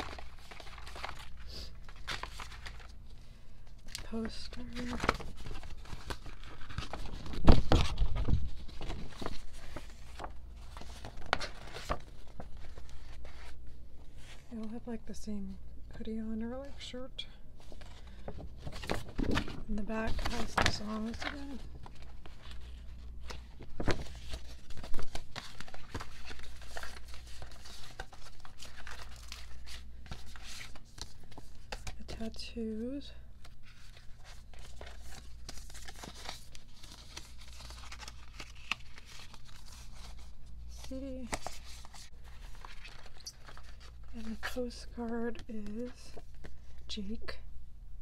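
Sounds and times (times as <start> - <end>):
paper crackling and rustling: 0.0 - 14.5, 17.6 - 32.4, 33.4 - 46.8.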